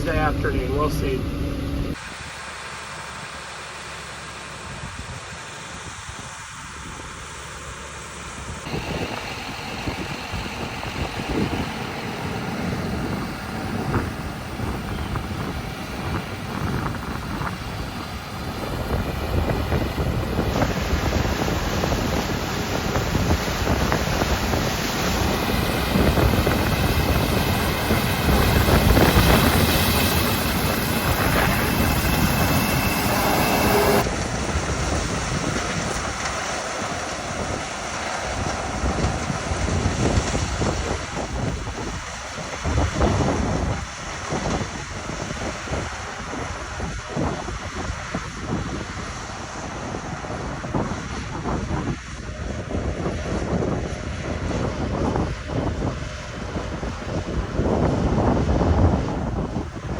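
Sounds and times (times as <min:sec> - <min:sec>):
farm machinery running: 0:00.0 - 0:59.8
wind buffeting microphone: 0:08.4 - 0:59.9.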